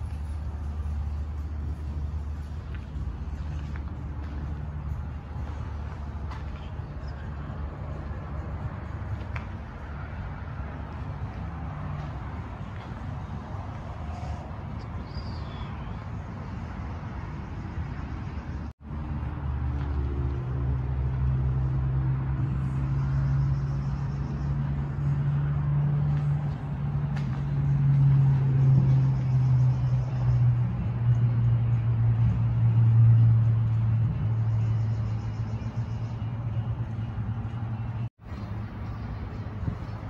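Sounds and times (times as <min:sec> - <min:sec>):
low motor hum: 0:00.0 - 0:40.0.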